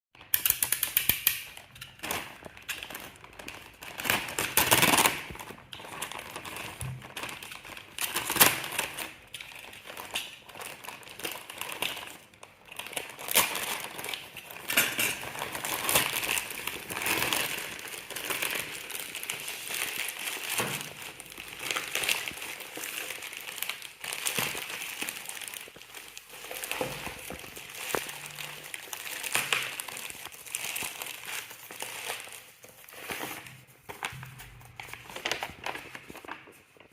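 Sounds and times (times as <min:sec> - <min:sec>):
plastic and cardboard crinkling: 0:01.3 - 0:36.9.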